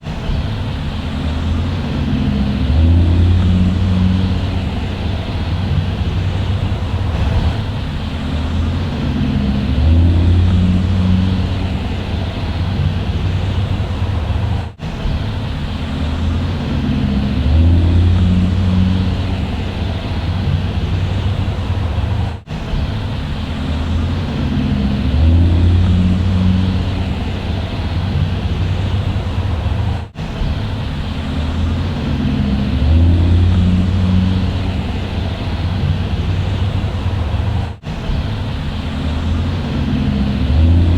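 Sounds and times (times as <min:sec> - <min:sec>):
bus engine droning: 0:00.0 - 0:40.9.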